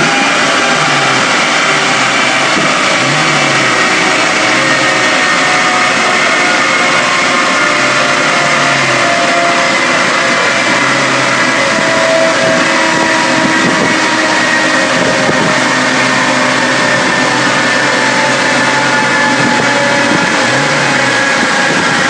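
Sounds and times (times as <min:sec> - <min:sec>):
car engine running loud: 0:00.0 - 0:22.0.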